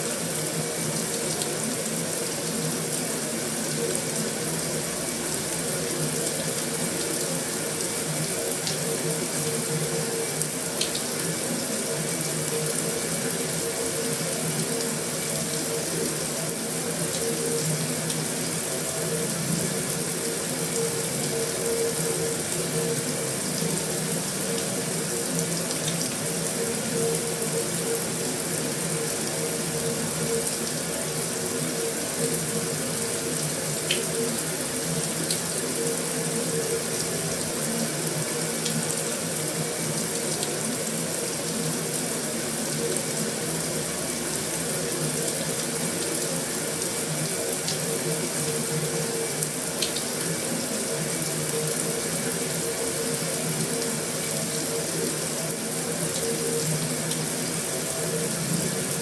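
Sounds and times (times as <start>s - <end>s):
heavy rain on a metal roof: 0.0s - 59.0s.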